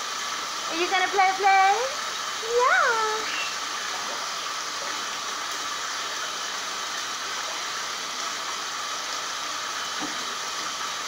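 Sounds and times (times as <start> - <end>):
water running into a bathtub: 0.0 - 11.0.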